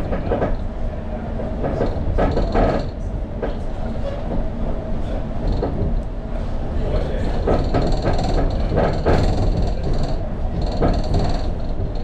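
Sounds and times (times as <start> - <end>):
train cabin rumble: 0.0 - 12.0
train clatters: 0.0 - 12.0.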